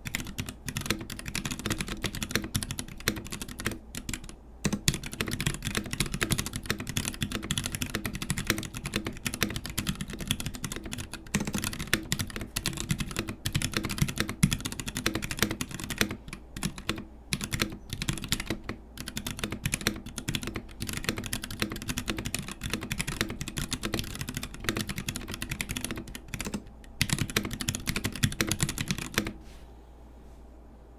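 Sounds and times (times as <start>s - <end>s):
mechanical keyboard typing: 0.0s - 29.4s.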